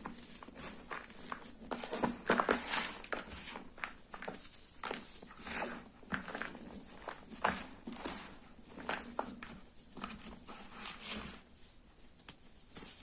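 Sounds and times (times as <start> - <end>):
chalk tapping and scraping: 0.0 - 13.0.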